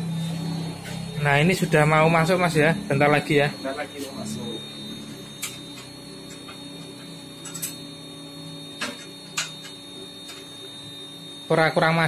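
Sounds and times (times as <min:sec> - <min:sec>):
coffee roaster humming: 0:00.0 - 0:12.0.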